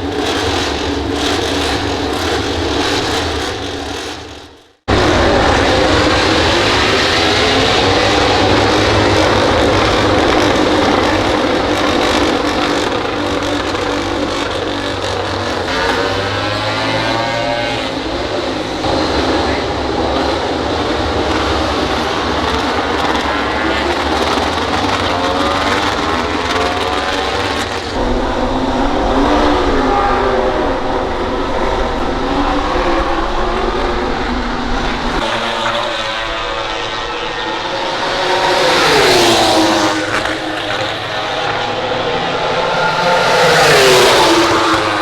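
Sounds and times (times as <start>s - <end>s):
racing motorcycles passing: 0.0s - 45.0s.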